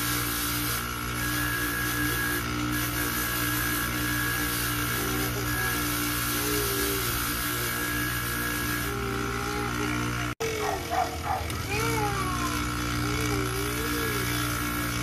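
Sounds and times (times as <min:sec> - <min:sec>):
polishing motor humming: 0:00.0 - 0:15.0.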